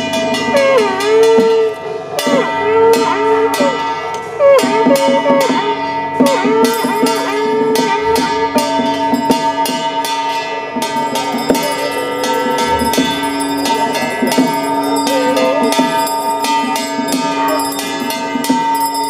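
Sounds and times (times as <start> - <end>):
sharp percussion strikes: 0.0 - 19.0
sliding melody over held tones: 0.4 - 18.5.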